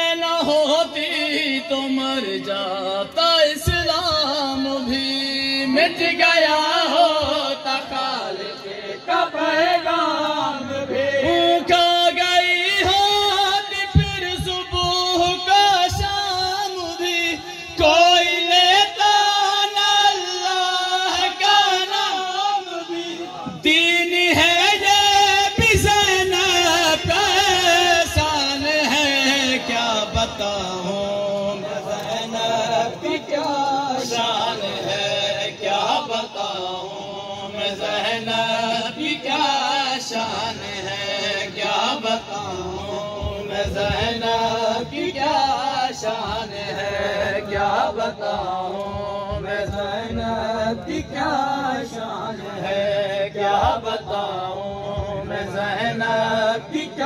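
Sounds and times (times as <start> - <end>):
men chanting a devotional song: 0.0 - 57.0.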